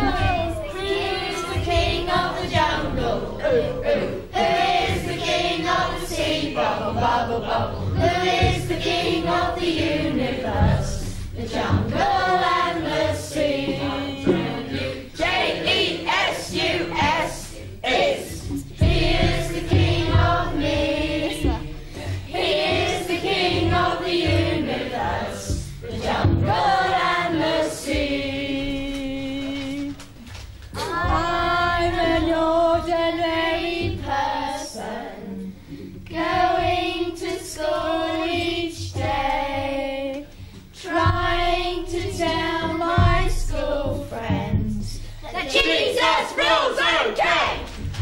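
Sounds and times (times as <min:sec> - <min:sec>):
children and woman singing: 0:00.0 - 0:47.7.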